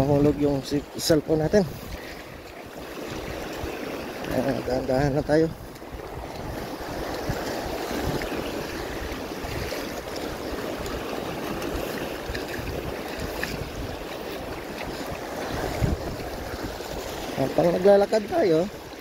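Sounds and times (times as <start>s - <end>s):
waves washing over rocky shore: 0.0s - 19.0s
wind buffeting microphone: 0.0s - 19.0s.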